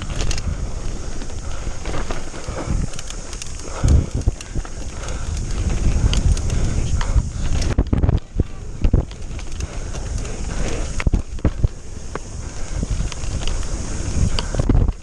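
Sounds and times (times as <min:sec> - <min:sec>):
bike knocks and rattles: 0:00.0 - 0:15.0
tyres hissing on dirt: 0:00.0 - 0:15.0
wind buffeting microphone: 0:00.0 - 0:15.0.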